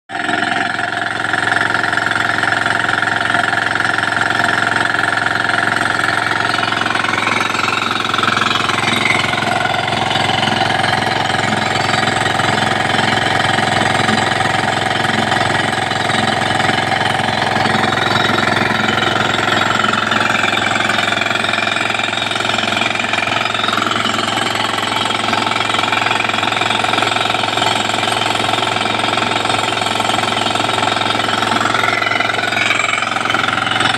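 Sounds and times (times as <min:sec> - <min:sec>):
air compressor engine hammering: 0:00.1 - 0:33.9.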